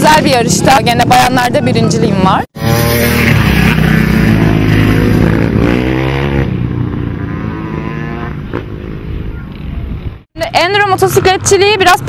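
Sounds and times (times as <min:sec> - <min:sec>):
motorcycle engine revving: 0:00.0 - 0:09.9.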